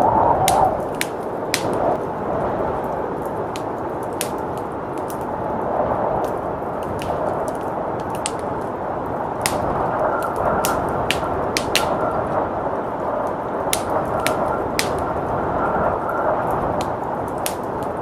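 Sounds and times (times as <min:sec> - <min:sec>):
blizzard wind rushing: 0:00.0 - 0:18.0
wood fire crackling: 0:00.0 - 0:18.0.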